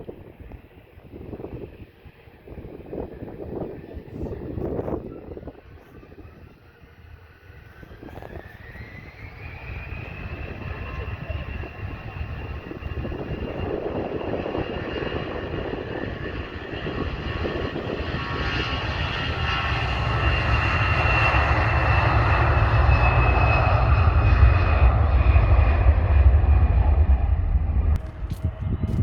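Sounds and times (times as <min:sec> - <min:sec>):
airliner engines whining and rumbling: 0:00.0 - 0:29.0.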